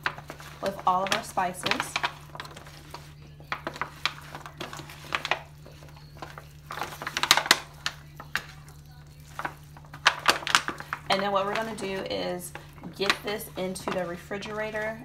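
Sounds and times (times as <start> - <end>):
foil pan crinkling: 0.0 - 15.0.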